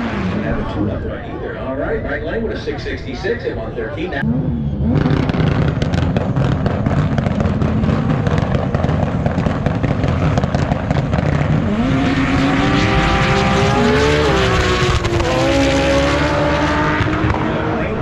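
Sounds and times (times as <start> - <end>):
drag race car engine: 0.0 - 18.0.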